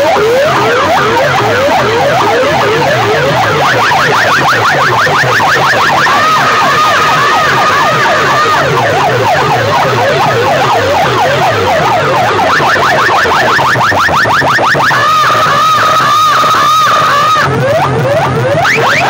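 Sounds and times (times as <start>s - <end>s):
electronic siren sweeping tones: 0.0s - 19.0s
warbling siren tone: 0.0s - 19.0s.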